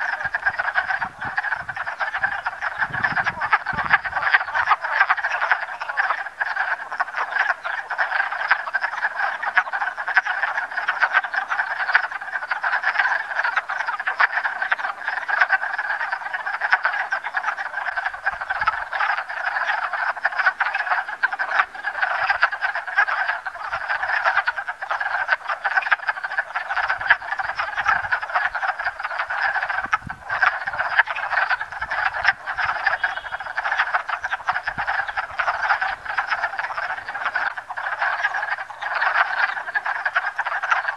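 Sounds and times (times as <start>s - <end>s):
chorus of frogs chattering: 0.0s - 40.9s.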